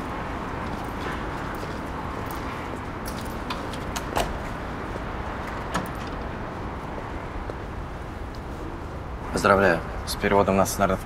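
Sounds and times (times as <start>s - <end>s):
distant traffic: 0.0s - 11.0s.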